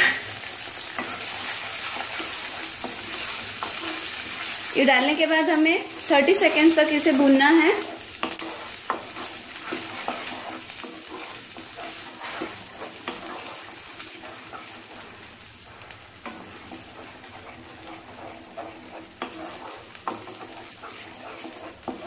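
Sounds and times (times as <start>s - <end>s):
wooden spatula scraping pan: 0.8s - 22.0s.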